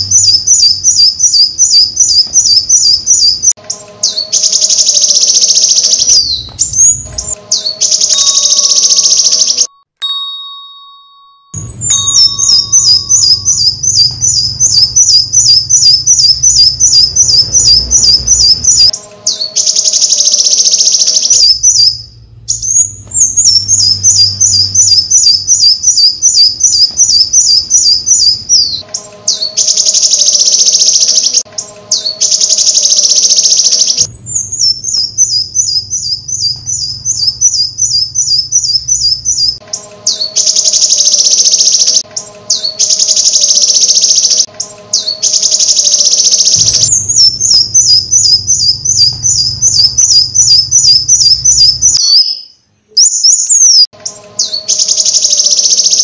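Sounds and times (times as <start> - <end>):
harsh buzzy bird calls: 0.0 - 9.7, 11.6 - 56.0
rapid high bird chirps: 0.0 - 9.9, 11.6 - 56.0.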